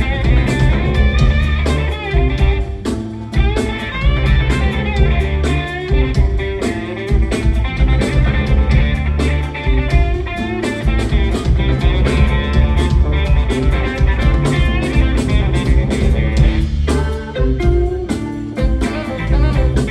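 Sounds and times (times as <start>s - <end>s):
bass and drums: 0.0s - 19.9s
electric guitar: 0.0s - 19.9s.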